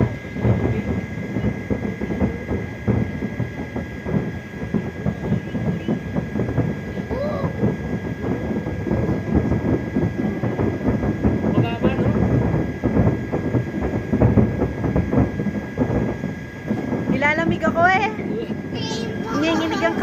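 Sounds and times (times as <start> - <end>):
distant fireworks bangs and crackles: 0.0 - 20.0.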